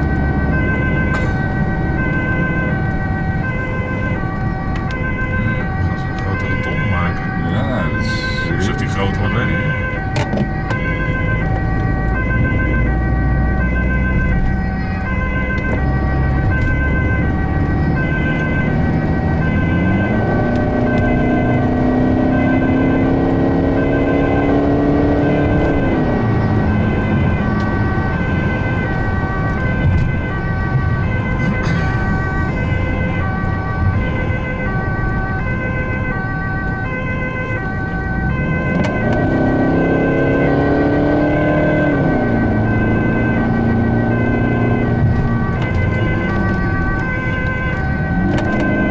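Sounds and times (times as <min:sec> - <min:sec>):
ambulance two-tone siren: 0:00.0 - 0:48.9
vehicle driving rumble: 0:00.0 - 0:48.9.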